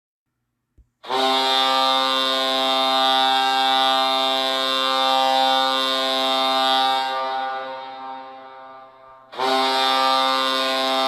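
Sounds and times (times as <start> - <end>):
ice hockey goal horn blast: 1.0 - 11.0.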